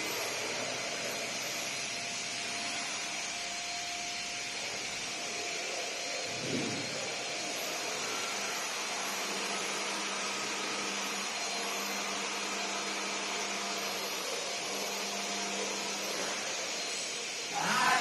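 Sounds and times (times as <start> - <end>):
router machine hiss: 0.0 - 18.0.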